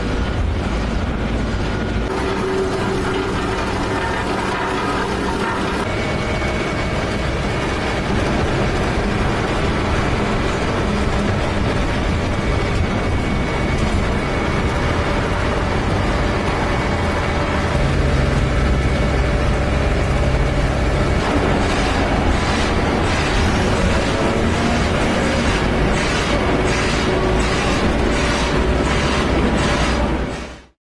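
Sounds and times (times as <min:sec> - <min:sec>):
deep engine hum: 0:00.0 - 0:30.7
diesel paving machinery running: 0:00.0 - 0:30.8.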